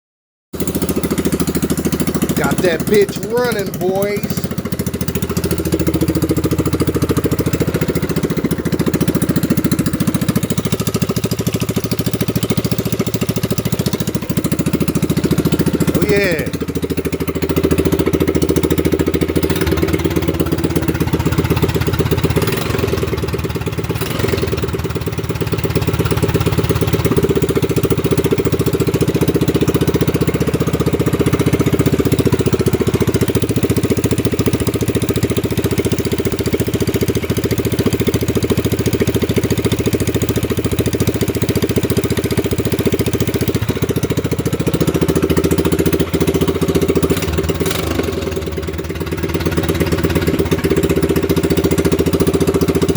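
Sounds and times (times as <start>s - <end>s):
mini bike engine idling: 0.6s - 52.9s.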